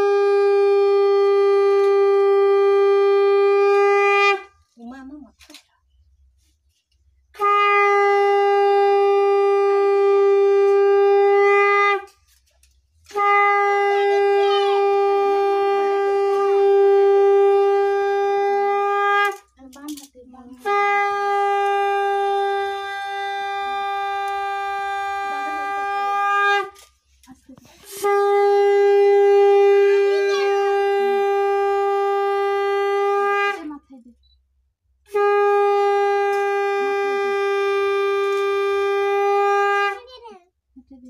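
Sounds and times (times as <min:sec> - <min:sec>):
conch shell blasts: 0:00.0 - 0:04.5, 0:07.4 - 0:12.4, 0:13.0 - 0:19.5, 0:20.5 - 0:27.0, 0:27.8 - 0:33.8, 0:35.0 - 0:40.0.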